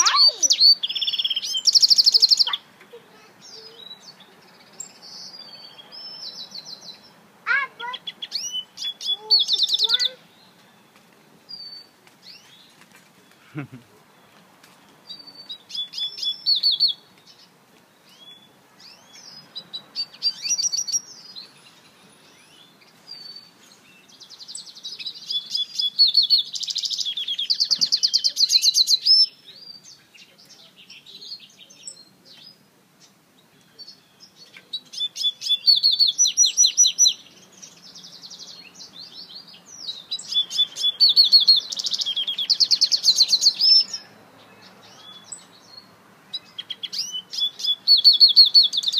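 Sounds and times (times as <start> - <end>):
finch singing high twittering trills: 0.0 - 12.7, 15.0 - 48.9.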